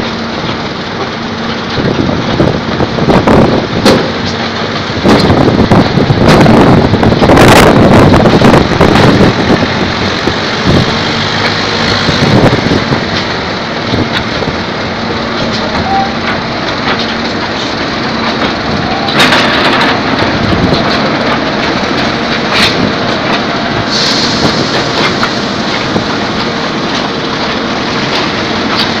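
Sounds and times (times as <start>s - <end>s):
heavy machinery engine hum: 0.0s - 29.0s
rough mechanical noise: 0.0s - 29.0s.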